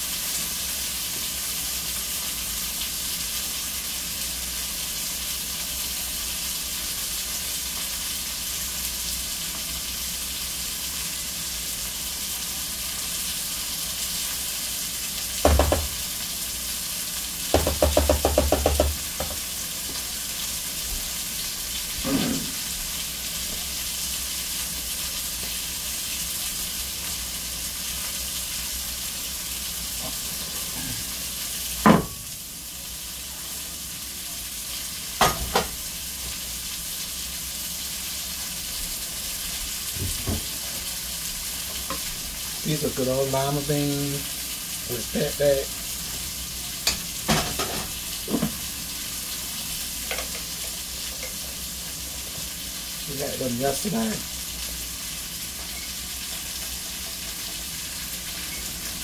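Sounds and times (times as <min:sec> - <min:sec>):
liver sizzling in a skillet: 0:00.0 - 0:59.0.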